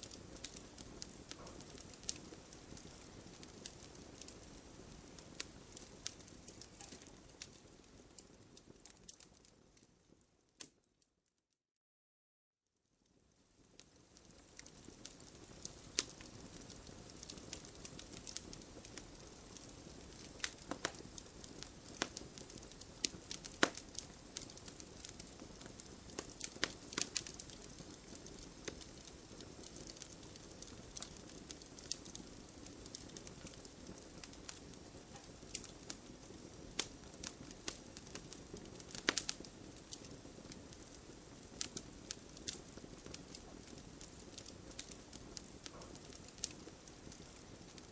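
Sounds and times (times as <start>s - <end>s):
hiss of flames: 0.0s - 9.0s, 13.6s - 47.9s
wood fire crackling and popping: 0.0s - 10.9s, 13.1s - 47.9s.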